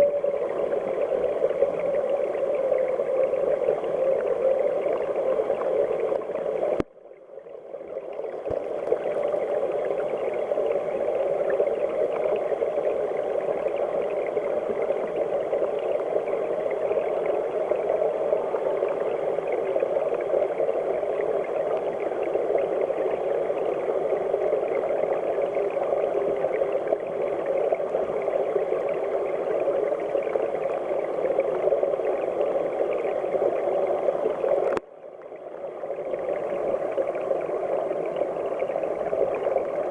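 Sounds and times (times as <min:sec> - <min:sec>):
stream rushing heard underwater: 0:00.0 - 0:39.9.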